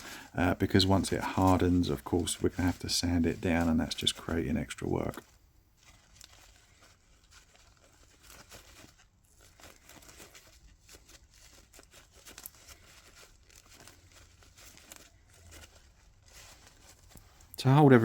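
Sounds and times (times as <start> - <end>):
paper towel crinkling and rustling: 0.0 - 18.0.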